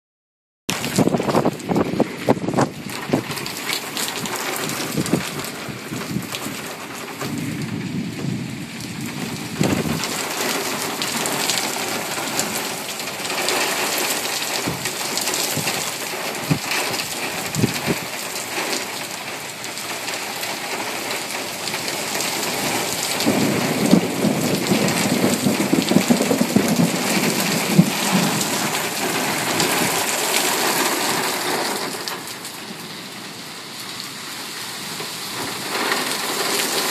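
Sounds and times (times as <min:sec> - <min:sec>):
thunder rumbling: 0:00.7 - 0:18.2, 0:19.2 - 0:32.8
heavy rain on pavement: 0:00.7 - 0:36.9.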